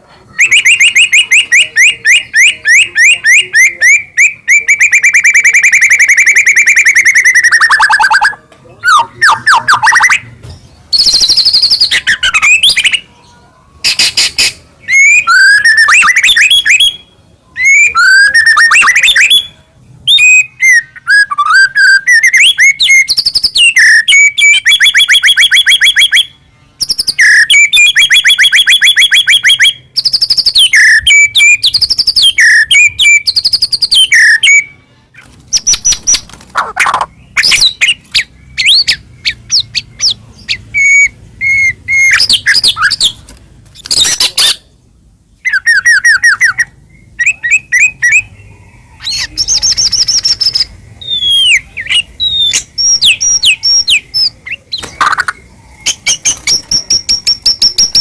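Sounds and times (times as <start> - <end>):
songbird singing whistles and trills: 0.3 - 43.2, 45.4 - 58.0.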